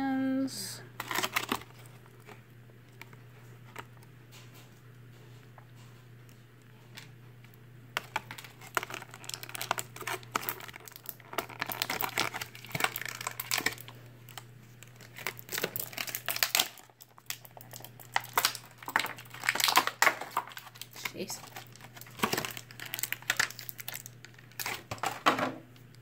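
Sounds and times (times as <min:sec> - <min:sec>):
plastic packaging crinkling: 0:00.9 - 0:26.0.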